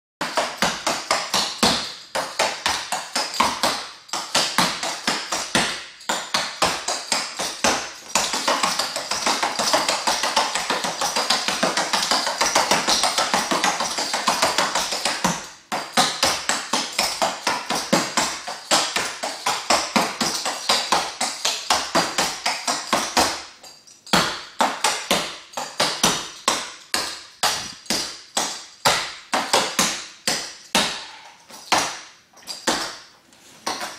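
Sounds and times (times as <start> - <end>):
tap shoes on hard floor: 0.2 - 33.9.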